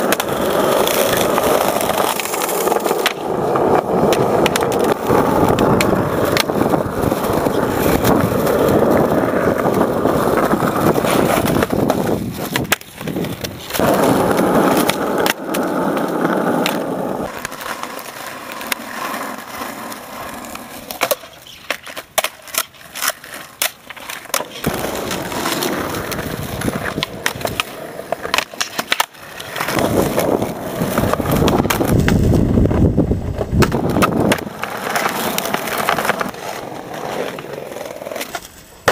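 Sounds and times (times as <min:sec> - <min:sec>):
skateboard slapping down: 0:00.0 - 0:38.9
skateboard tail popping: 0:00.0 - 0:38.9
skateboard wheels rolling on asphalt: 0:00.0 - 0:38.9.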